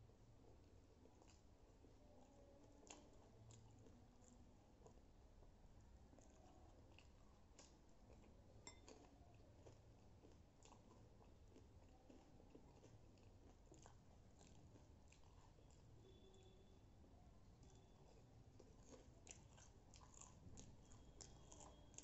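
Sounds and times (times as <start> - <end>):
chewing crunchy food: 0.1 - 16.6, 17.5 - 22.0.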